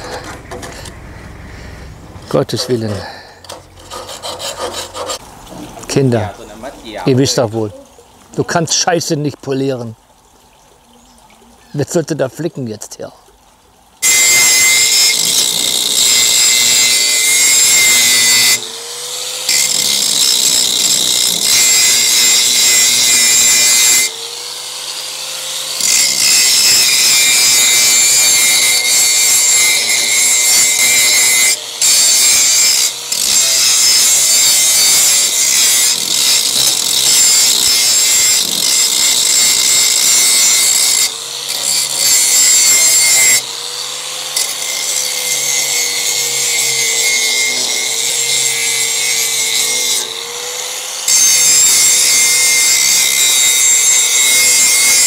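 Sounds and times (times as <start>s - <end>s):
angle grinder grinding metal: 0.0s - 5.2s, 14.0s - 55.0s.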